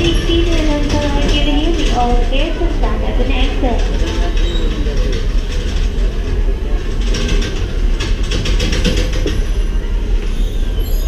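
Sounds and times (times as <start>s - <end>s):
metallic clicks of train wheels: 0.0s - 10.4s
train wheels rumbling: 0.0s - 11.0s.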